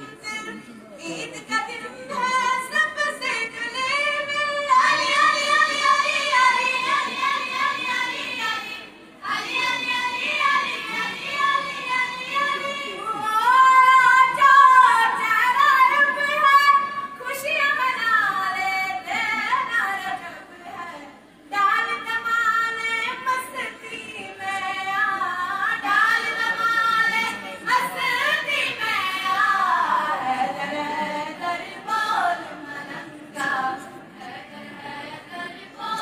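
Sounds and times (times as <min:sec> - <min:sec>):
woman singing devotional song: 0:00.0 - 0:36.0.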